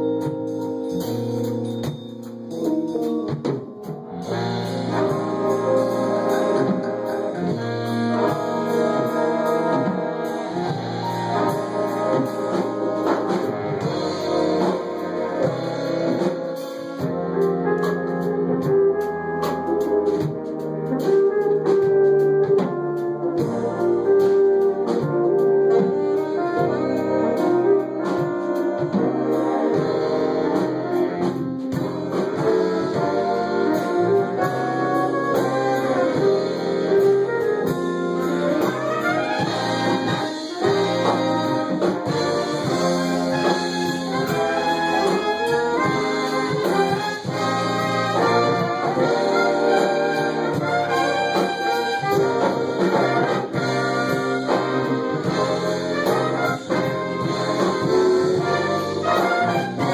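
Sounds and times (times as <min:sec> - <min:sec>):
big jazz band playing: 0:00.0 - 0:59.9.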